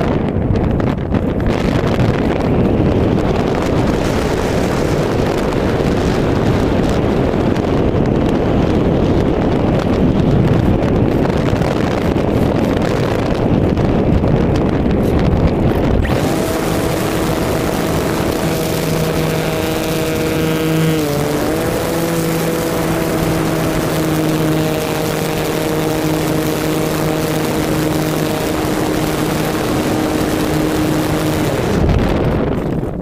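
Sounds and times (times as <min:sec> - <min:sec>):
model airplane motor and propeller: 0:00.0 - 0:33.0
wind rushing over microphone: 0:00.0 - 0:33.0.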